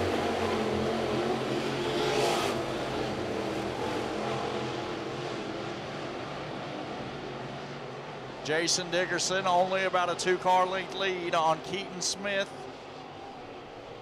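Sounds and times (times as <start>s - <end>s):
race car engines at speed: 0.0s - 14.0s.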